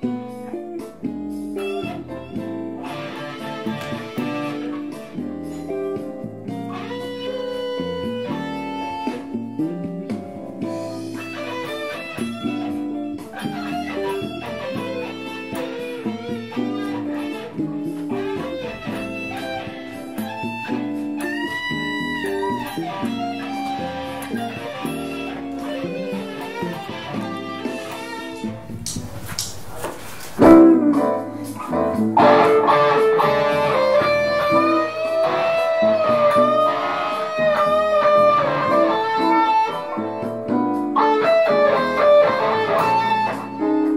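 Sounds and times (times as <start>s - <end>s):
backing track: 0.0s - 43.9s
electric guitar lead lines: 0.0s - 43.9s.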